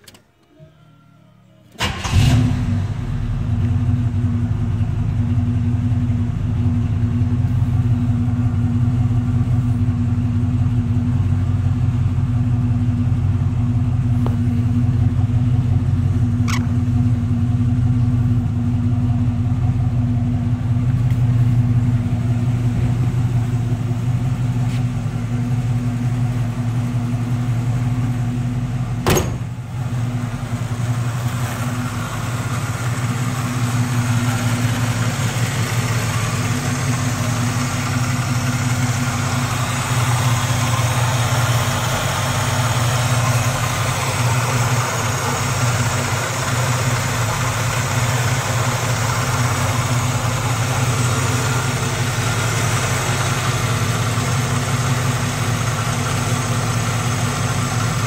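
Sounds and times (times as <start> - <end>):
car engine idling: 1.8 - 58.0.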